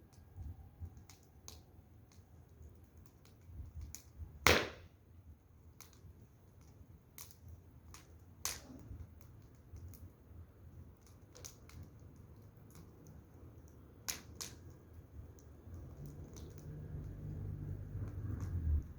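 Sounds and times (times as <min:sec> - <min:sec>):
firewood crackling and popping: 0:00.0 - 0:18.9.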